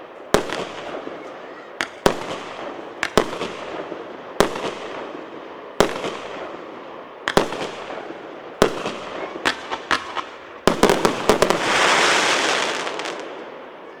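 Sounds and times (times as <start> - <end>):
fireworks bangs echoing: 0.0 - 14.0
hissing crackle of fireworks: 0.0 - 14.0.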